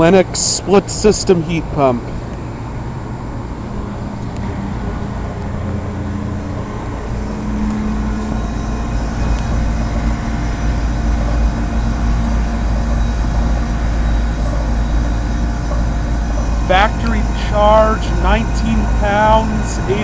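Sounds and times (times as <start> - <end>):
heat pump unit humming: 0.0 - 20.0.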